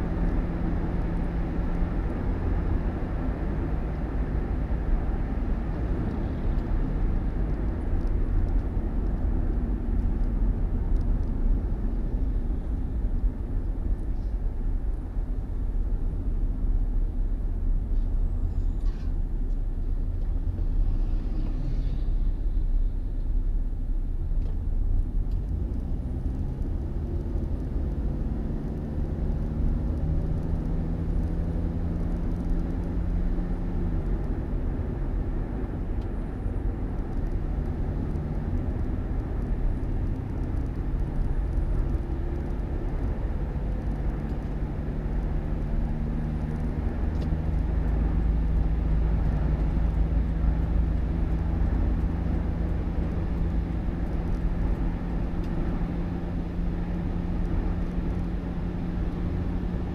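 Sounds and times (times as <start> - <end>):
engine hum: 0.0 - 59.9
vehicle engine and road rumble: 0.0 - 59.9.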